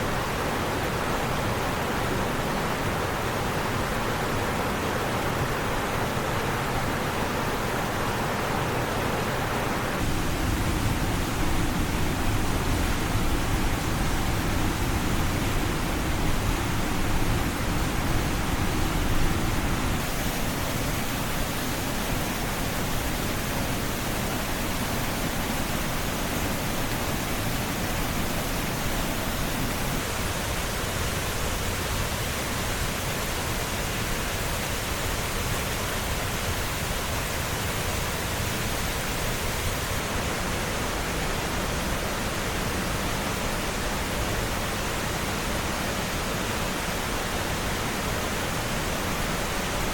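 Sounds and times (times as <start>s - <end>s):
water rushing over rocks: 0.0s - 49.9s.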